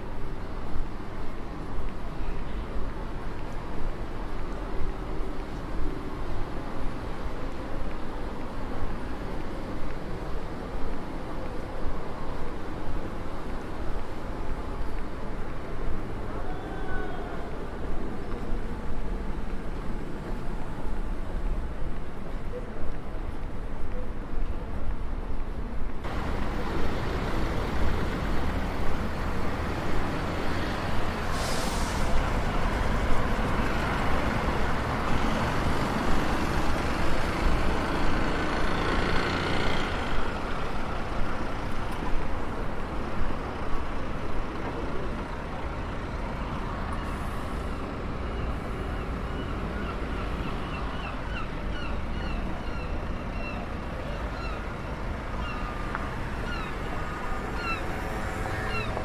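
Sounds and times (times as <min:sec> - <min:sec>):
buses and cars passing: 0:00.0 - 0:59.0
road noise: 0:00.0 - 0:59.0.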